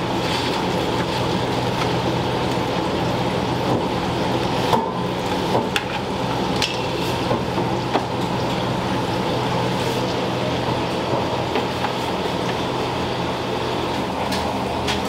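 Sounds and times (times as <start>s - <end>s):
kitchen hum and hiss: 0.0s - 15.0s.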